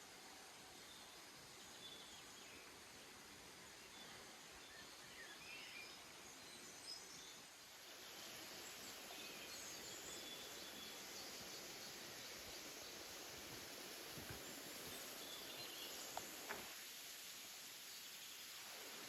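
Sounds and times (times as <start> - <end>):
low hiss: 0.0 - 19.0.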